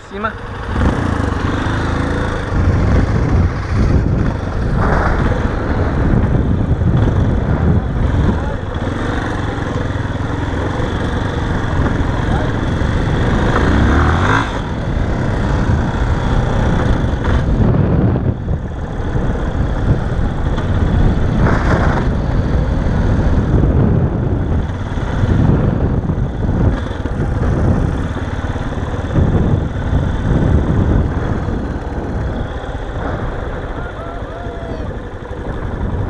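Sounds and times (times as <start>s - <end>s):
motorcycle engine revving: 0.0s - 36.0s
wind noise on microphone: 0.4s - 36.0s.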